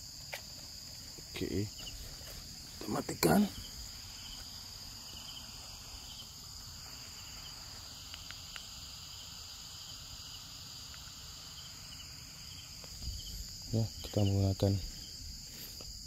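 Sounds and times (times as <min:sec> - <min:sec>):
crickets shrilling: 0:00.0 - 0:16.0.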